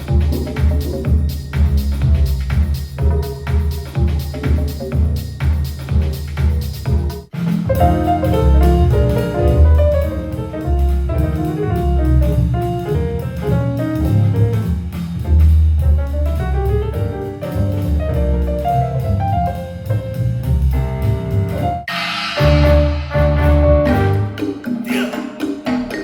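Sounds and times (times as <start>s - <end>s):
jazz through a small speaker: 0.0s - 25.2s.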